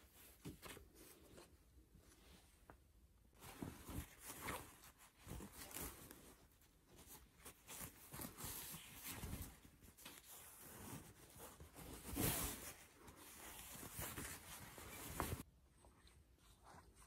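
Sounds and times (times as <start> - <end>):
silk fabric rustling: 0.0 - 15.5.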